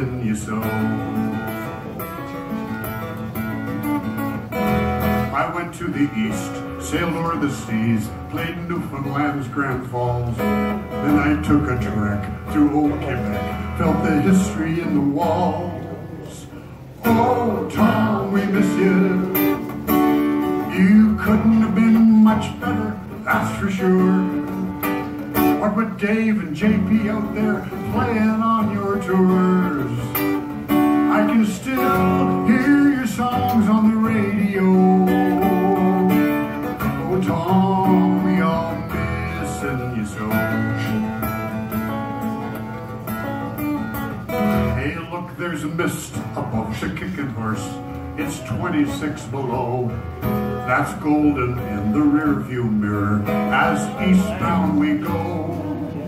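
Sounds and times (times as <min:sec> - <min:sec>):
man singing: 0:00.0 - 0:01.7, 0:05.2 - 0:41.6, 0:44.6 - 0:56.0
acoustic guitar strumming: 0:00.0 - 0:56.0.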